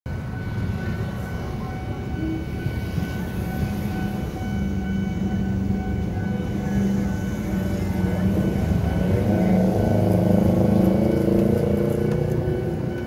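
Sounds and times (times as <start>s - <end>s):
steady high tones: 0.1s - 13.0s
train wheels and motors rumbling: 0.1s - 13.0s.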